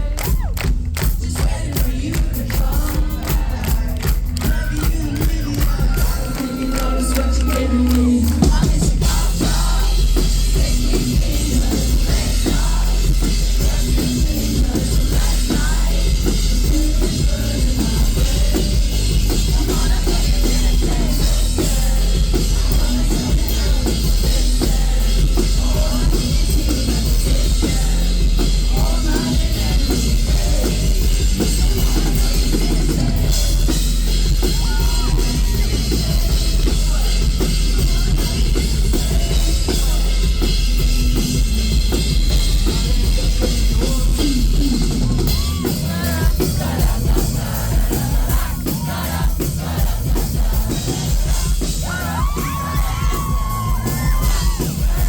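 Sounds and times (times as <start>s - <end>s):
drum kit: 0.0s - 55.0s
pop-rock band playing live: 0.0s - 55.0s
vocals: 0.0s - 55.0s.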